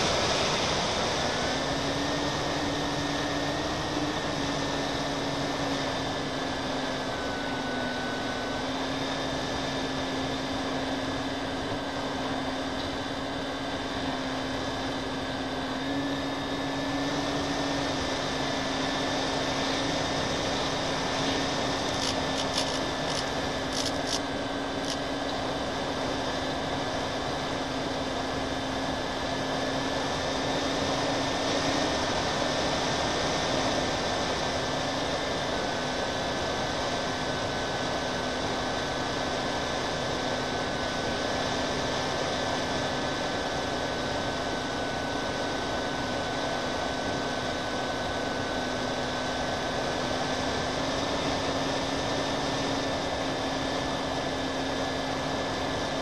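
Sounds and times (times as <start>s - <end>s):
model airplane motors whining: 0.0s - 56.0s.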